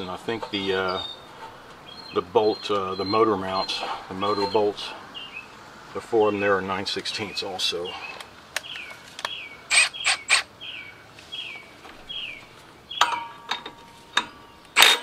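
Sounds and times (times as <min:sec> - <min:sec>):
bird chirping: 0:00.0 - 0:13.2.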